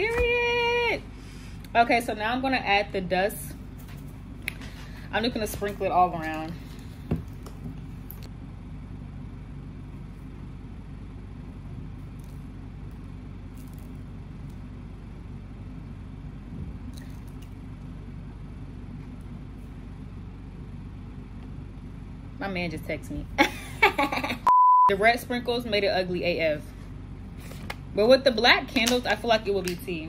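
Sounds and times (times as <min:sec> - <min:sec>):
room hum: 0:00.0 - 0:30.0.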